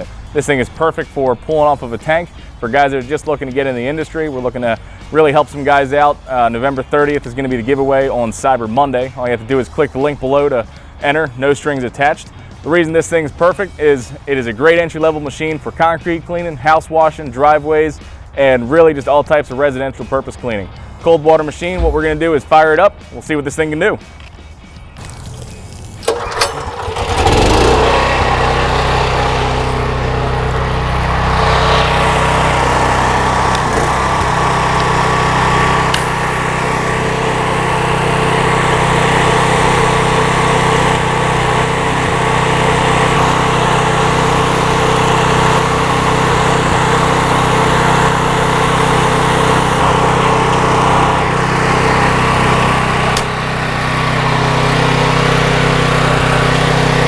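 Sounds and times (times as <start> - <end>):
pressure washer engine running: 0.0 - 18.3, 25.0 - 57.0.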